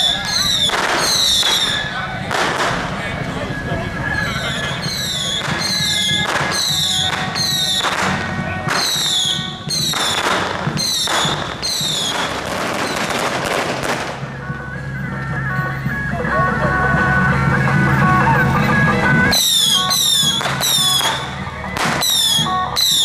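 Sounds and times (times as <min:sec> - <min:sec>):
fireworks crackling: 0:00.0 - 0:15.5, 0:17.4 - 0:23.0
whistling fireworks: 0:00.0 - 0:16.0, 0:16.6 - 0:23.0
low hum of music: 0:00.0 - 0:23.0.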